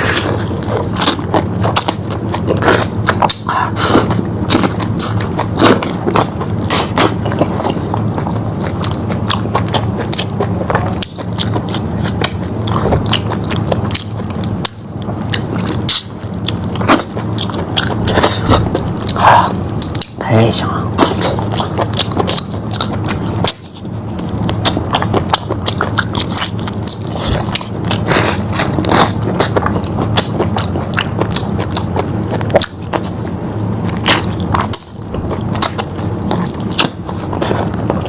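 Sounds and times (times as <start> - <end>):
person biting and chewing meat: 0.0 - 38.0.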